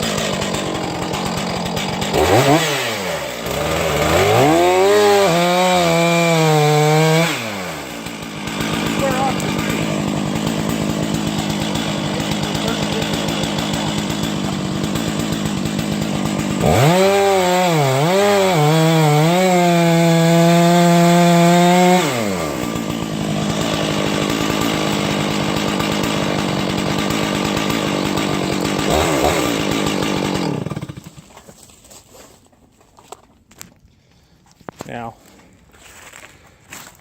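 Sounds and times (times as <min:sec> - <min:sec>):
chainsaw revving: 0:00.0 - 0:31.3.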